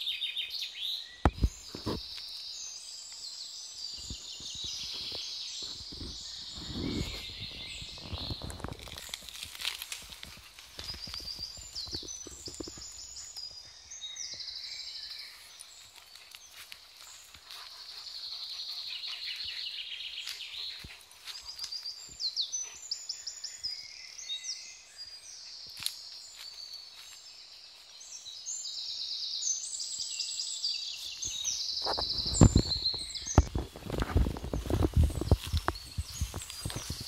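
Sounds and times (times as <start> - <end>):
songbirds singing: 0.0 - 37.0.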